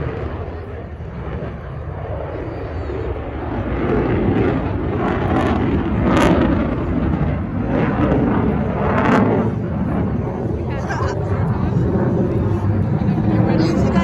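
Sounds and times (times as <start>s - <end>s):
jet roar: 0.0s - 14.0s.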